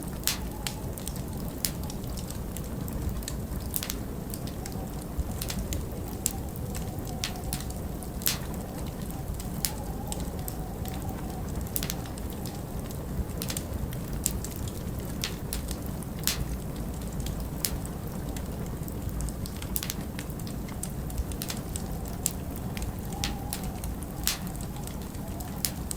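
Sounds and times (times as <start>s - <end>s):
low rush of wind: 0.0s - 25.9s
wood fire crackling: 0.0s - 25.9s.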